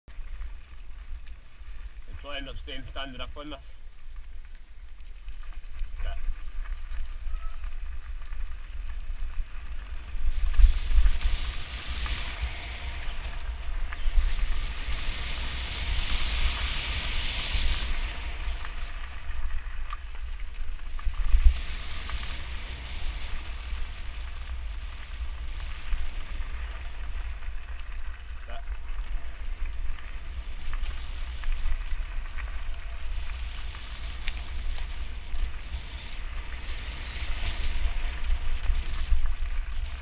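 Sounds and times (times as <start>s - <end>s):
bicycle tyres rolling on gravel: 0.1s - 40.0s
wind rumbling on microphone: 0.1s - 40.0s.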